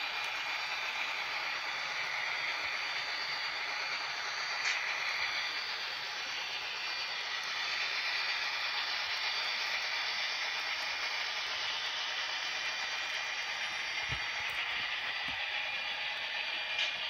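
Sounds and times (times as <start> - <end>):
model train whirring on track: 0.0 - 17.0.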